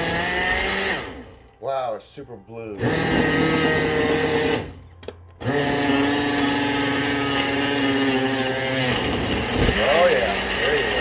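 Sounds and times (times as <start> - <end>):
blender motor whining: 0.0 - 1.5, 2.8 - 11.0.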